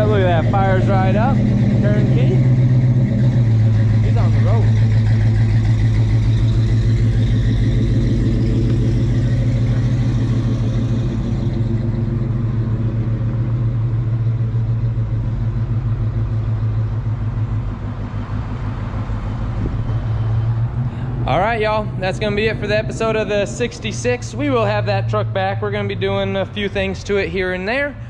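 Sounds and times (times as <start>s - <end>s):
pickup truck engine rumble: 0.0s - 28.0s.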